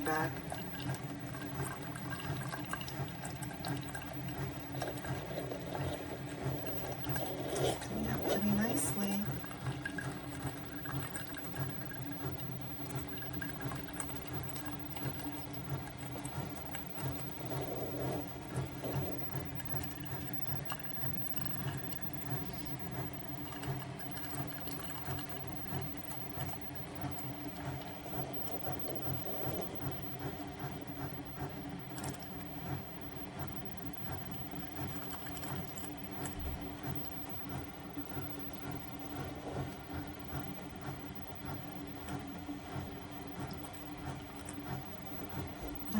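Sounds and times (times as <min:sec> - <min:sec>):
coffee maker pump buzzing: 0:00.0 - 0:45.9.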